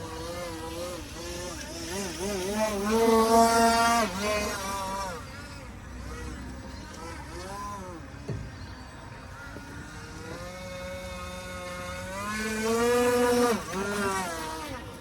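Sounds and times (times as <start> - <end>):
model boat motor whining: 0.0 - 15.0.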